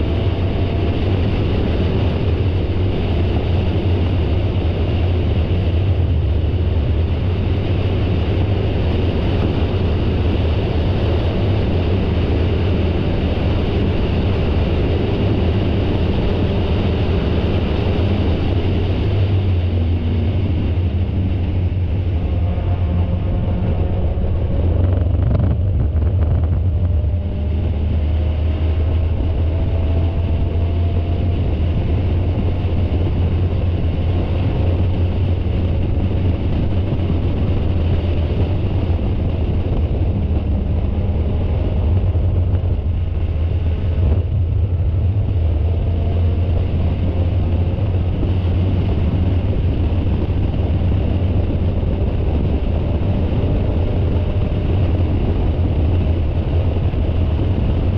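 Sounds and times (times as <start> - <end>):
race car engine rumble: 0.0 - 57.9.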